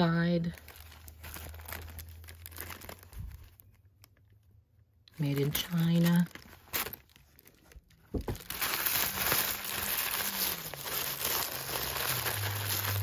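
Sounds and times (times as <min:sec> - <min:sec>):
tissue paper rustling: 0:00.4 - 0:03.8, 0:05.2 - 0:13.0.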